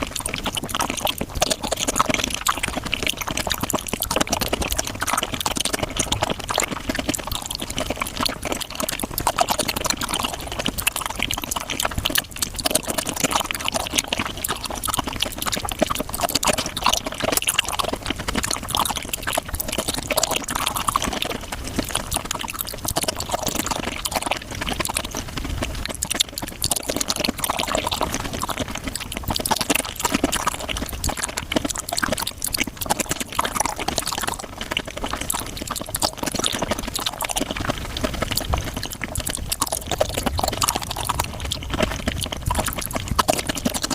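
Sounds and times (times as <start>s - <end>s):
wet chewing and slurping: 0.0s - 43.9s.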